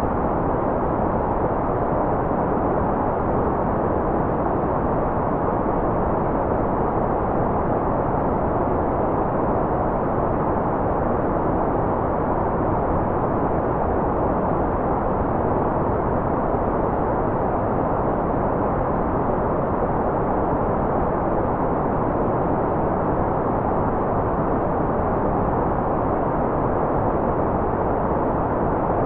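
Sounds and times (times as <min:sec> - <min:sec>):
muffled white noise hiss: 0:00.0 - 0:29.0.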